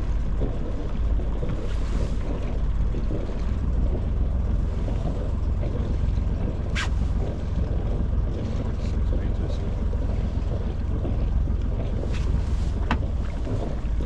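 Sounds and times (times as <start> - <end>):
boat engine ticking over: 0.0 - 14.0
wind rumble on microphone: 0.0 - 14.0.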